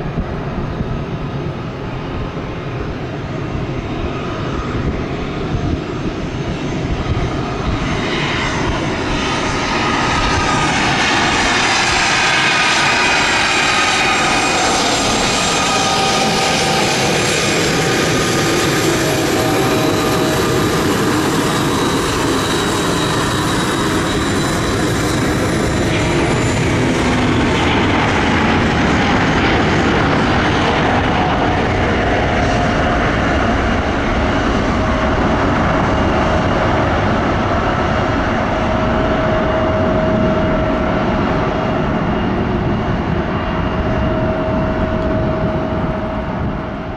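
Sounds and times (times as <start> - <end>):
jet engines roaring with fan whine: 0.0 - 46.9.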